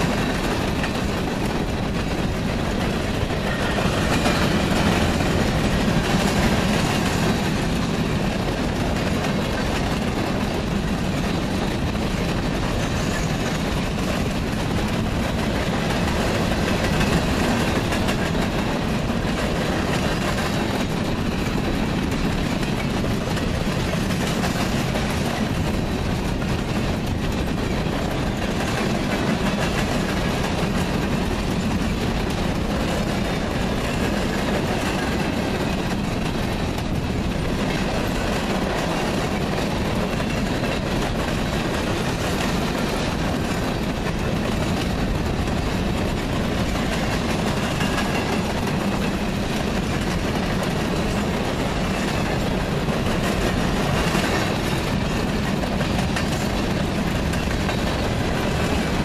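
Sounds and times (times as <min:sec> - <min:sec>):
freight train rumbling: 0:00.0 - 0:59.0
wheels clacking over rail joints: 0:00.0 - 0:59.0.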